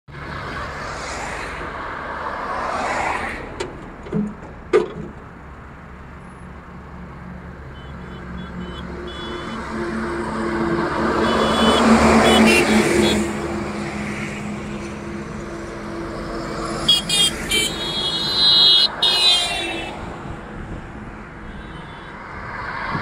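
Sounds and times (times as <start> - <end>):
car passing: 0.1 - 4.0, 5.4 - 21.4, 22.1 - 23.0
truck engine: 0.1 - 23.0.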